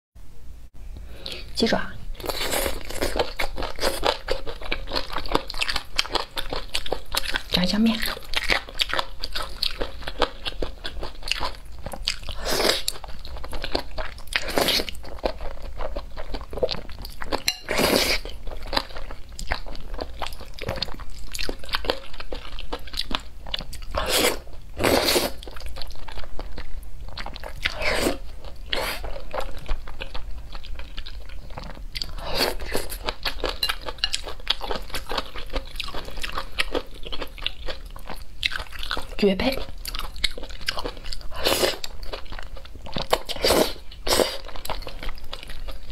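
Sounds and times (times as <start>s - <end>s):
chewing with wet mouth clicks: 2.3s - 24.0s, 28.4s - 45.9s.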